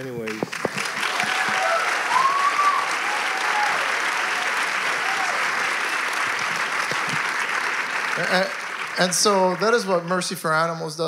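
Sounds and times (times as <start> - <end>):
audience calls: 0.0 - 10.3
audience applauding: 0.0 - 11.0.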